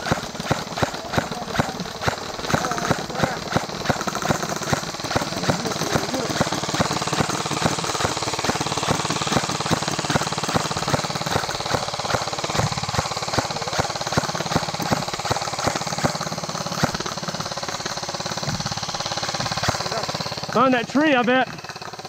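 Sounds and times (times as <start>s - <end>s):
airsoft rifles firing full auto: 0.0s - 22.0s.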